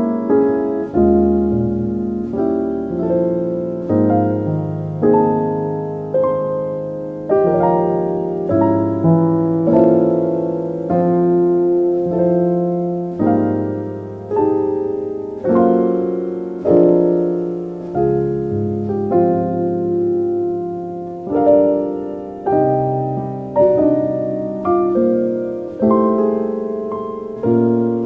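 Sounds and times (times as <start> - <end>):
gentle piano chords: 0.0 - 28.0.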